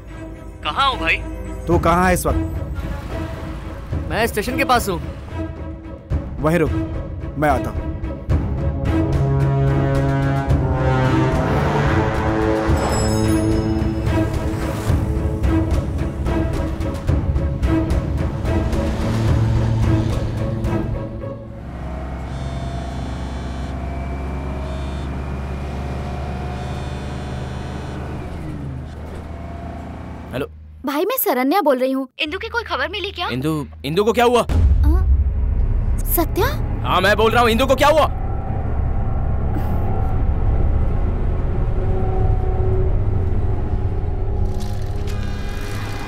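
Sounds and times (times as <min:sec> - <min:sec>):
bus rumbling: 0:00.0 - 0:07.2, 0:07.8 - 0:31.1, 0:32.3 - 0:46.0
engine humming: 0:00.0 - 0:30.8, 0:35.4 - 0:46.0.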